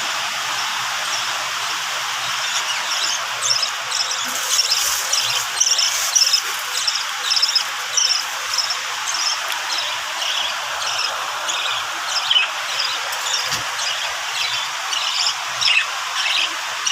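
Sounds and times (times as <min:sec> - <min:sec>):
rain hiss: 0:00.0 - 0:16.9
parrots chirping: 0:02.3 - 0:16.9.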